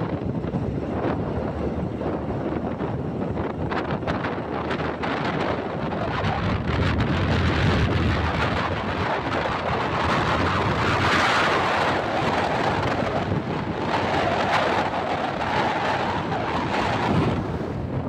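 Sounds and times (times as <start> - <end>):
road rumble from vehicle: 0.0 - 18.0
wind buffeting microphone: 0.0 - 18.0.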